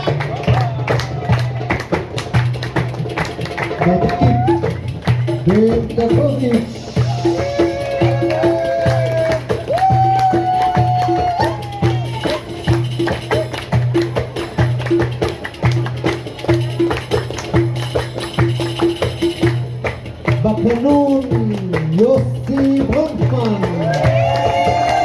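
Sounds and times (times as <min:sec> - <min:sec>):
hand drum beat: 0:00.0 - 0:25.0
tambourine jingles: 0:02.3 - 0:25.0.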